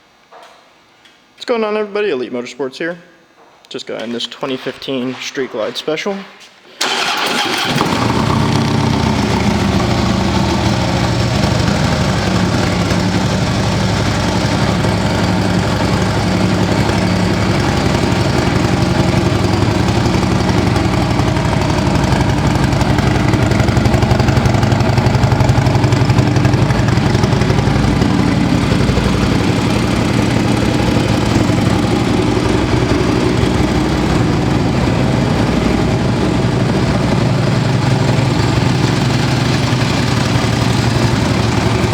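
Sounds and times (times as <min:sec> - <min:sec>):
motorcycle engine idling: 0:06.8 - 0:41.9.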